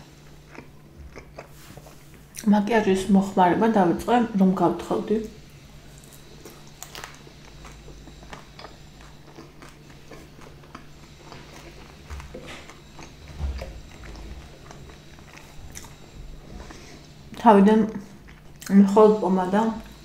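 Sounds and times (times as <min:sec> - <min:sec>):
chewing pizza: 0:00.0 - 0:02.5, 0:05.2 - 0:19.0
faint steady hum: 0:00.0 - 0:20.0.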